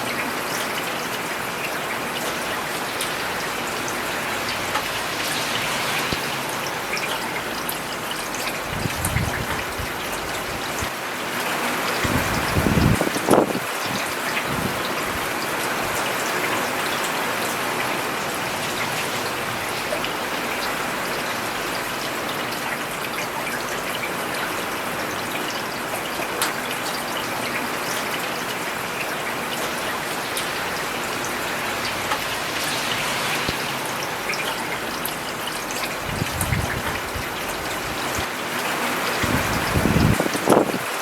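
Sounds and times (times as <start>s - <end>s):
rain falling on pavement: 0.0s - 41.0s.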